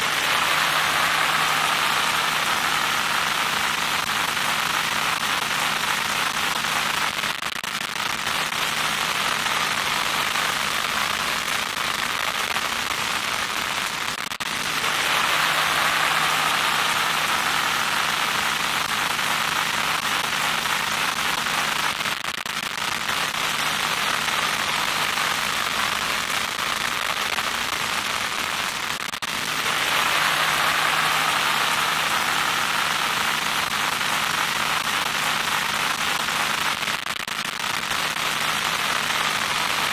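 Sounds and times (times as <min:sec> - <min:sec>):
crackling electronic static: 0:00.0 - 0:39.9.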